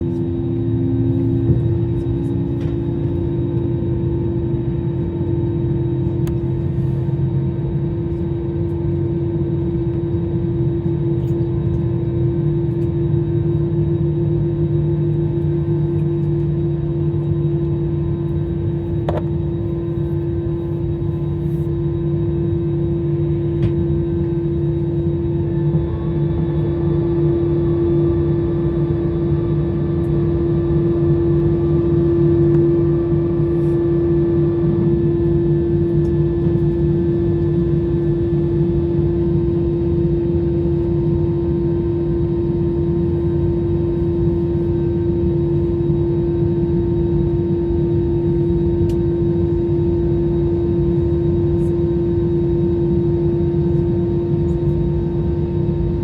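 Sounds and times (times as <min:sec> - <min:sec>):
jet engines droning in cabin: 0:00.0 - 0:56.0.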